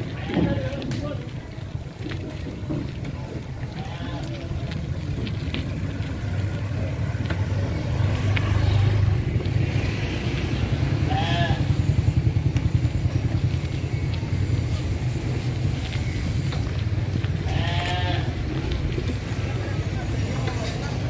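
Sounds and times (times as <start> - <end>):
motorcycle engine rumbling: 0.0 - 21.0.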